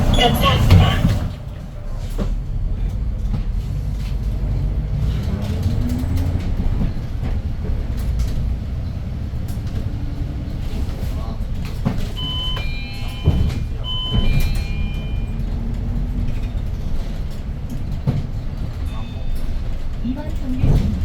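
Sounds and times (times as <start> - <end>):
bus engine rumble: 0.0 - 21.0.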